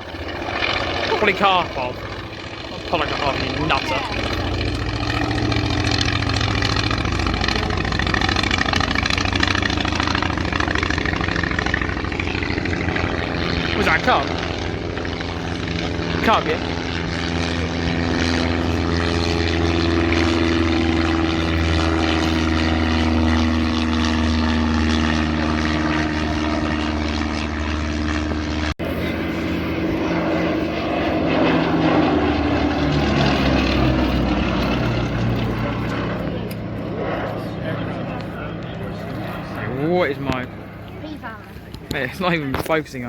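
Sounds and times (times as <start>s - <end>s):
propeller aircraft flying past: 0.0s - 43.0s.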